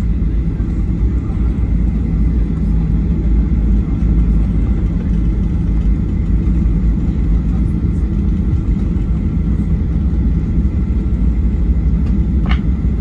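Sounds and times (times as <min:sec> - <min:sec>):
airplane cabin rumble while taxiing: 0:00.0 - 0:13.0
jet engines at low power: 0:00.0 - 0:13.0.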